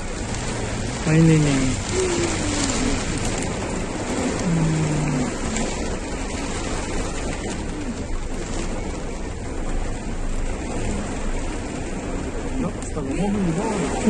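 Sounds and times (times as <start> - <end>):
heavy rain: 0.0 - 14.0
strong wind: 0.0 - 14.0.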